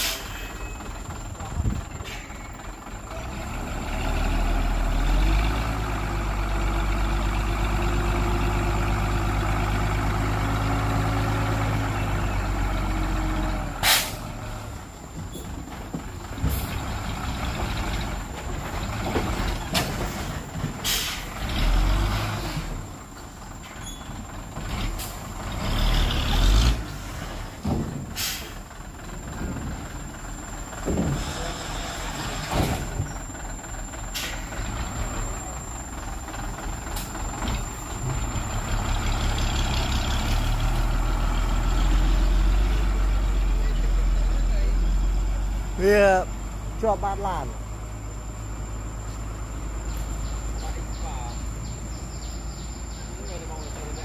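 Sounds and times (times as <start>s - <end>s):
truck engine revving: 2.6s - 15.0s, 16.2s - 54.0s.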